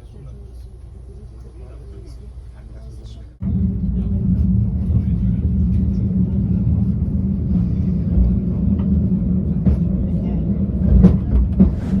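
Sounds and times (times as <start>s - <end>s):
train rumbling at speed: 0.0s - 12.0s.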